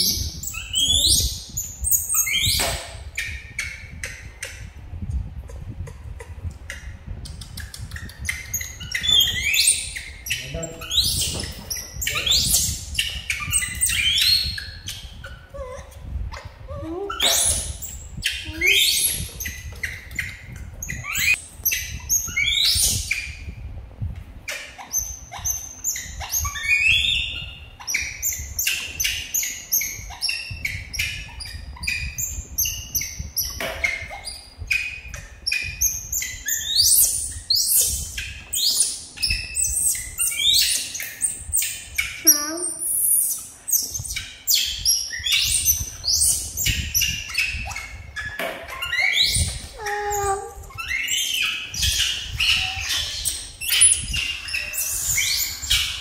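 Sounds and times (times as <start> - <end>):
baby monkeys chirping and squealing: 0.0 - 4.8, 5.4 - 23.7, 24.4 - 56.0.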